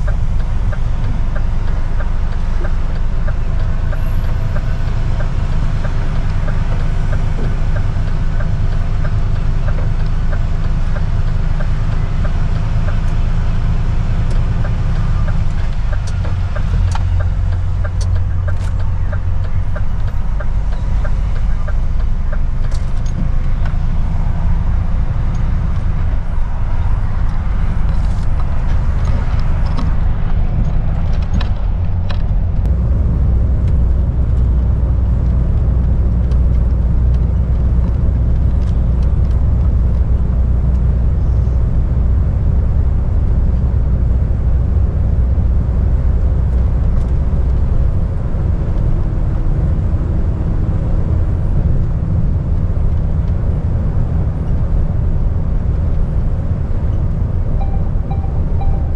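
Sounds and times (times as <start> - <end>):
diesel engine drone: 0.0 - 58.9
road and tyre noise: 0.0 - 58.9.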